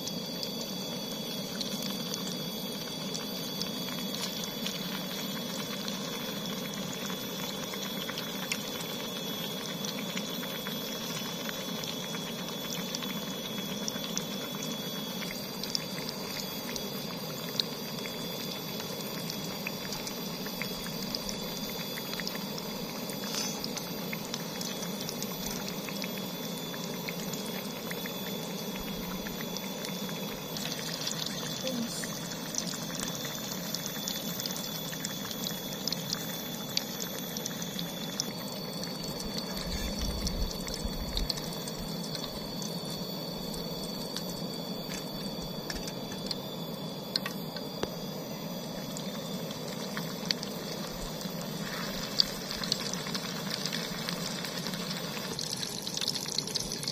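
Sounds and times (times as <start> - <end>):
hot oil sizzling and bubbling: 0.0 - 56.9.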